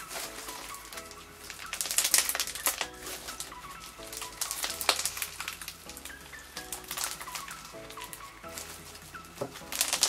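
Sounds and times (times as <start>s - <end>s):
slime crackling and squelching: 0.0s - 10.0s
soft background music: 0.0s - 10.0s.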